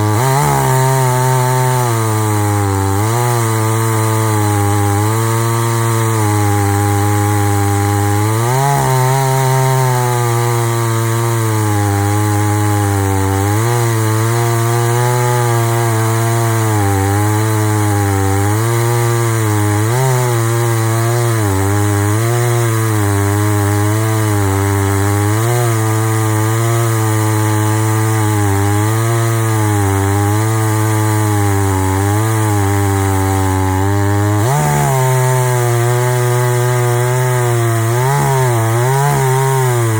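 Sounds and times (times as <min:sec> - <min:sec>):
chainsaw ripping through log: 0:00.0 - 0:39.9.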